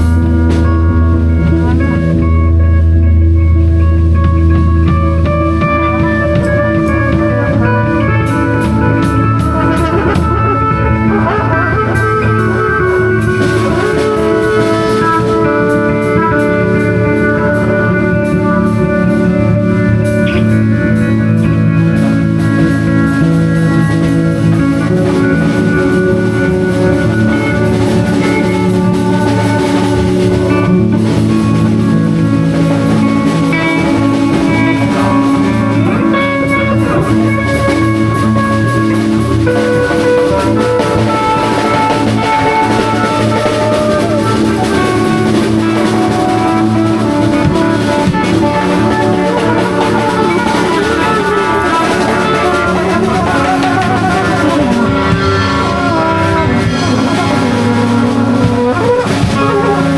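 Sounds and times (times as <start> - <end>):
live band playing instrumental: 0.0 - 59.9.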